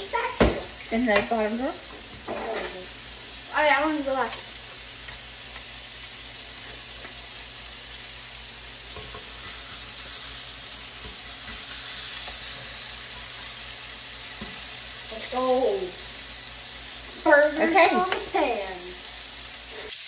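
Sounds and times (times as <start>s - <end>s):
patties sizzling in skillet: 0.0s - 20.0s.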